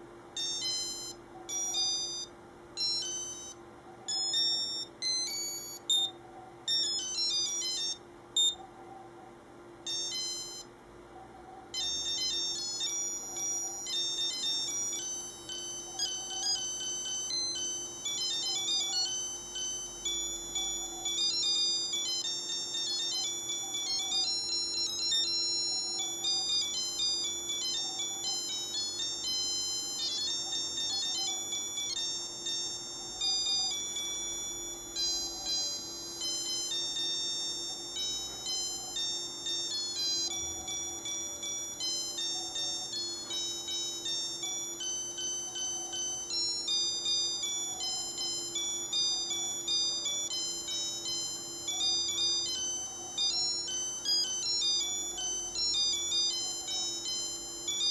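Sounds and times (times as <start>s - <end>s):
watch beeping melody: 0.0s - 8.7s, 9.8s - 10.7s, 11.7s - 57.9s.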